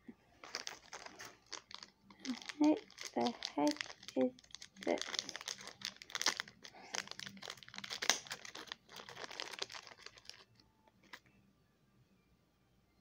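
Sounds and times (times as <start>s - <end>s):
plastic packaging crinkling: 0.4s - 11.2s.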